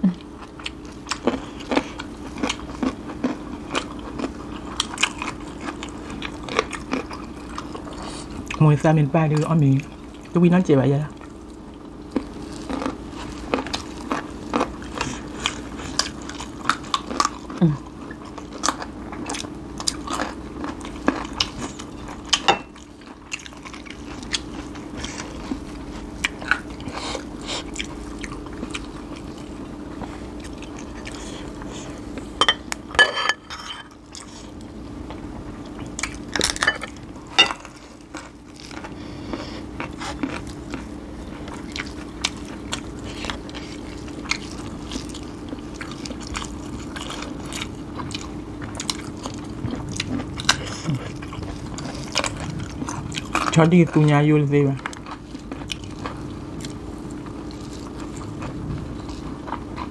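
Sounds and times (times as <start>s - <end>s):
chewing: 0.2s - 8.6s, 11.1s - 32.3s, 33.9s - 59.9s.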